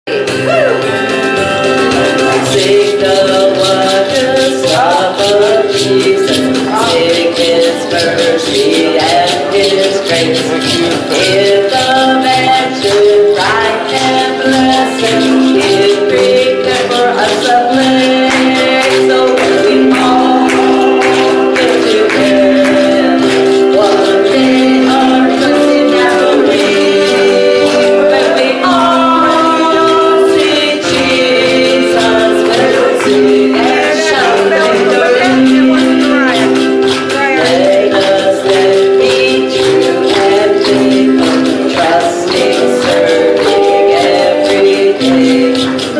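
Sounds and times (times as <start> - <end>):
keyboard accompaniment: 0.0 - 45.9
bass line: 0.1 - 45.4
steady percussion beat: 0.1 - 45.9
gospel group singing harmony: 0.4 - 45.9.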